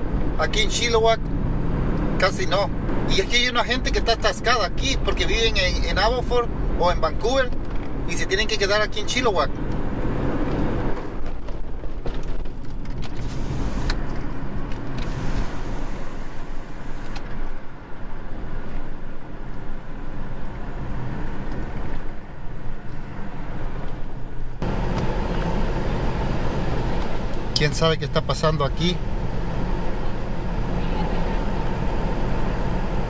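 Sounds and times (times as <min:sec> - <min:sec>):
car cabin engine and road rumble: 0:00.0 - 0:33.0.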